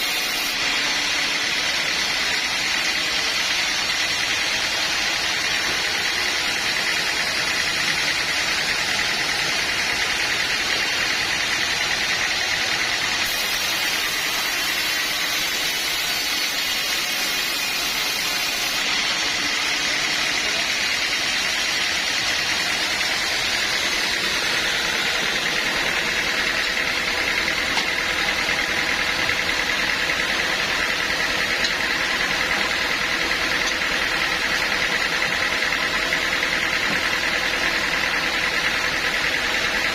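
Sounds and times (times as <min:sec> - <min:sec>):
engine running: 0:00.0 - 0:39.9
saw whining: 0:00.0 - 0:39.9.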